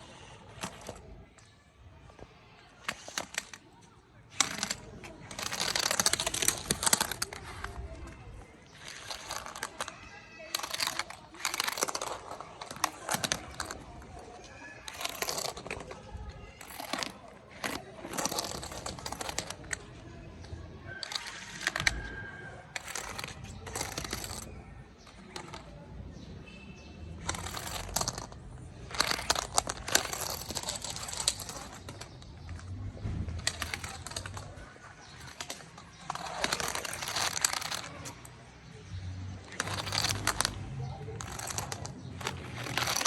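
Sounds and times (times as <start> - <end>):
clicking and rattling: 0.0 - 26.3, 27.1 - 43.0
toy ball rolling and bumping: 0.0 - 43.0.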